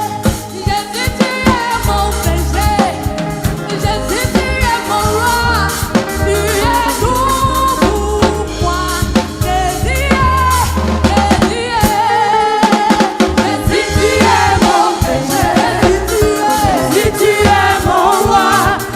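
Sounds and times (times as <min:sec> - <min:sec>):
band with drum kit and bass: 0:00.0 - 0:18.9
lead voice singing: 0:00.0 - 0:18.9.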